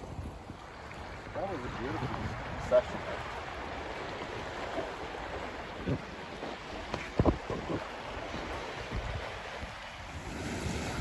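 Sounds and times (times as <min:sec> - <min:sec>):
sea waves: 0:00.0 - 0:11.0
wind buffeting microphone: 0:00.0 - 0:11.0.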